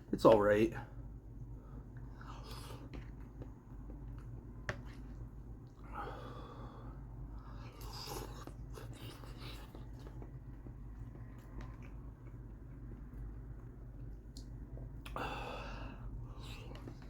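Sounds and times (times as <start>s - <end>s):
person chewing food: 1.9s - 6.4s, 7.2s - 17.0s.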